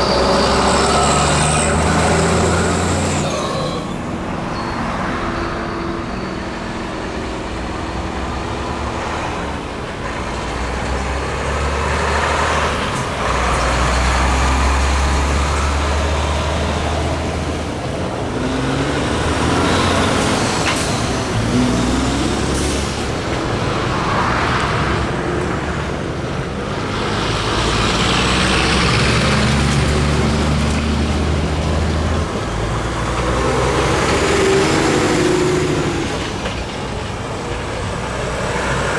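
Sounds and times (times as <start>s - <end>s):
heavy trucks driving past: 0.0s - 38.9s.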